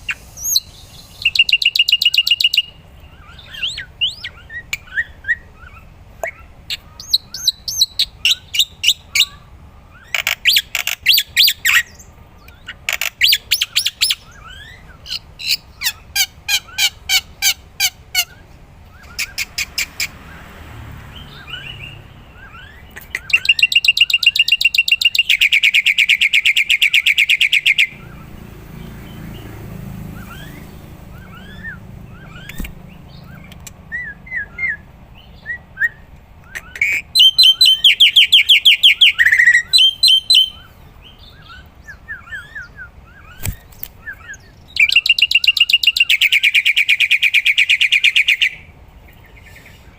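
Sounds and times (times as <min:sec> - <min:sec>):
starling chirping and trilling: 0:00.0 - 0:49.9.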